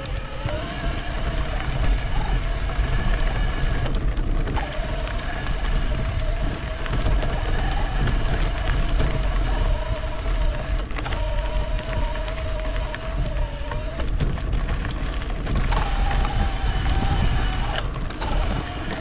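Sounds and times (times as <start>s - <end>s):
electric bike motor whining: 0.0s - 19.0s
low rumble: 0.0s - 19.0s.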